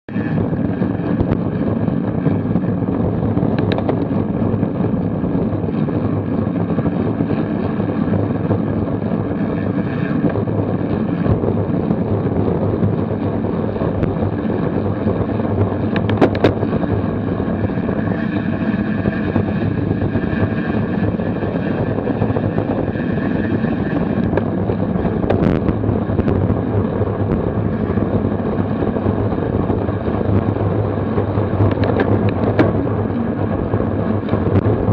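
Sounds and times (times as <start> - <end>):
road rumble: 0.0 - 34.9
wind rush: 0.1 - 34.9.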